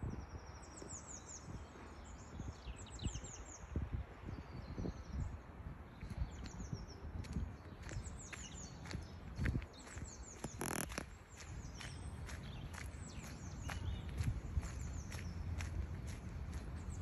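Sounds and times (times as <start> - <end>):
small songbirds chirping: 0.0 - 17.0.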